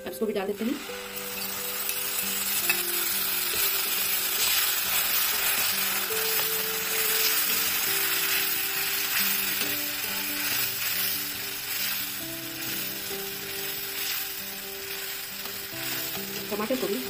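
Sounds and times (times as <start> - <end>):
paste sizzling in hot oil: 0.5 - 17.0.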